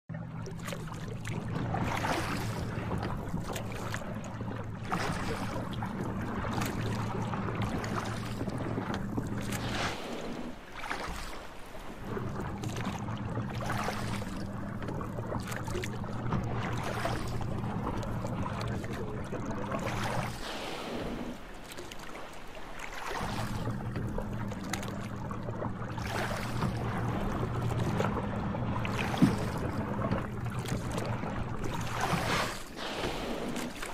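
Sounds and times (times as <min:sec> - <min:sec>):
boat motor idling: 0:00.2 - 0:09.6, 0:11.4 - 0:20.4, 0:21.4 - 0:32.1.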